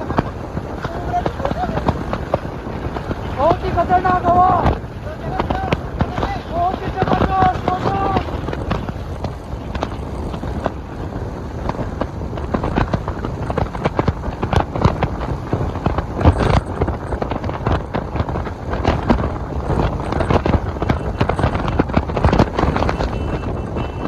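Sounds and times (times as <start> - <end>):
knocks and crackles: 0.0 - 24.0
wind buffeting microphone: 0.0 - 24.0.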